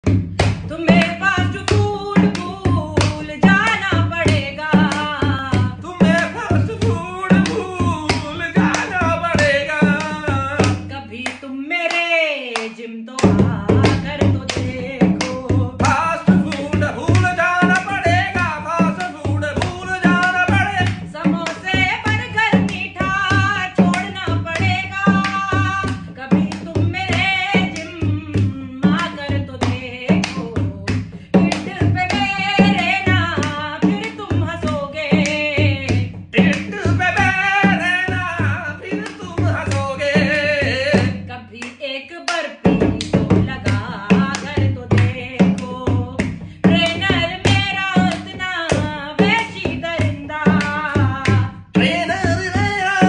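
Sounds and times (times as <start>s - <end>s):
hand drum beating: 0.0s - 11.0s, 13.2s - 41.3s, 42.6s - 53.0s
hand claps: 0.0s - 40.4s, 41.6s - 53.0s
woman singing: 0.3s - 53.0s.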